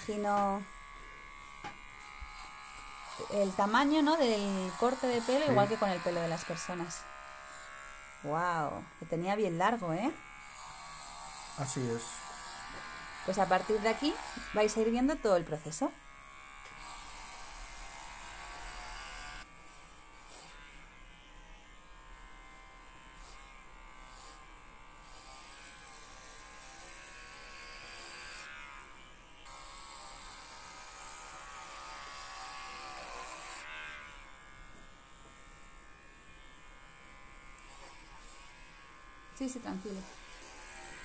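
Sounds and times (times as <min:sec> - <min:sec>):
electric hair clipper buzzing: 0:00.0 - 0:41.0.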